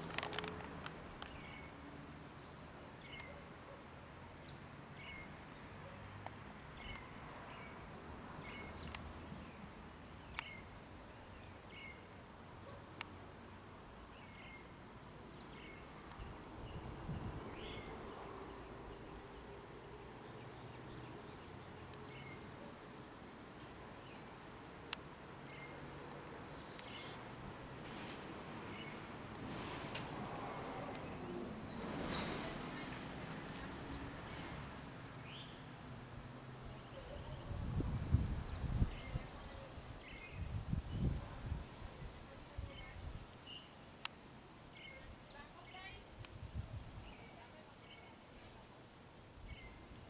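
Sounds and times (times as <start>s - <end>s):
birds chirping: 2.4s - 24.4s, 25.4s - 46.0s.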